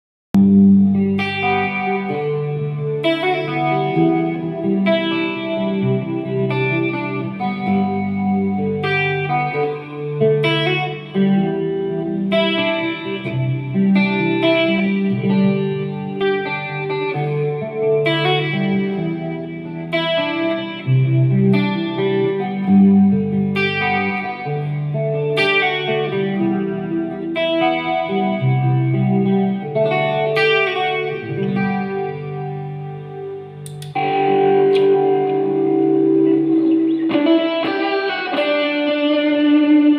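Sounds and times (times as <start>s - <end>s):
distorted electric guitar: 0.4s - 39.9s.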